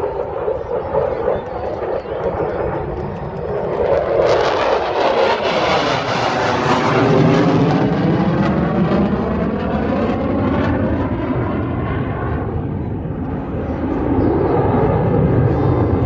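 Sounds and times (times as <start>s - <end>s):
fighter jet passing: 0.0s - 16.0s.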